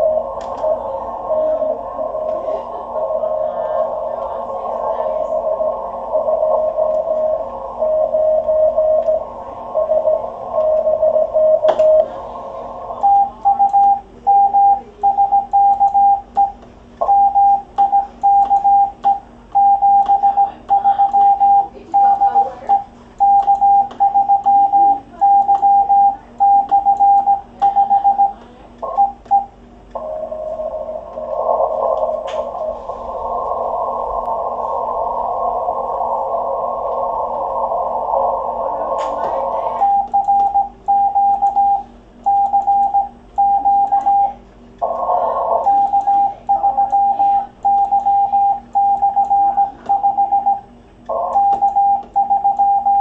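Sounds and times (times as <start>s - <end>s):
morse code beeps: 0.0s - 4.1s, 4.8s - 12.1s, 13.0s - 32.9s, 38.8s - 44.4s, 45.5s - 53.0s
receiver hiss: 0.0s - 53.0s.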